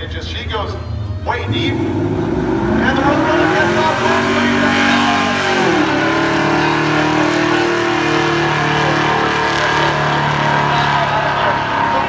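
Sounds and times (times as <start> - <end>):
race car engine at full throttle: 0.0 - 12.0
tire spinning: 1.0 - 12.0.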